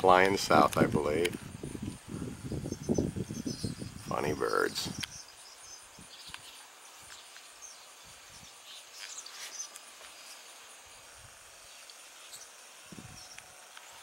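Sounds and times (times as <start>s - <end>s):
high insect trill: 0.0s - 14.0s
swallows chirping: 1.6s - 10.8s, 11.6s - 14.0s.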